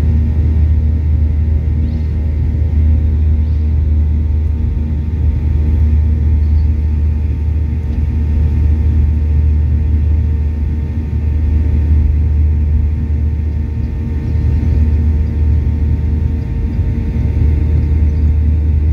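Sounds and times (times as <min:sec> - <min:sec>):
faint hum tones: 0:00.0 - 0:18.9
jet engine cabin rumble: 0:00.0 - 0:18.9.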